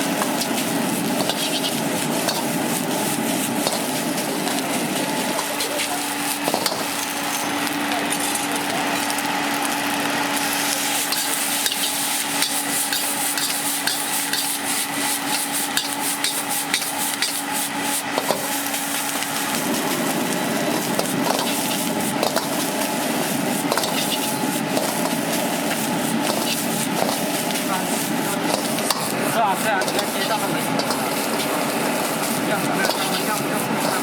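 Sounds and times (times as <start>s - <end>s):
metal spatula scraping wok: 0.0s - 7.6s, 10.4s - 19.2s, 20.8s - 34.0s
food sizzling in a wok: 0.0s - 34.0s.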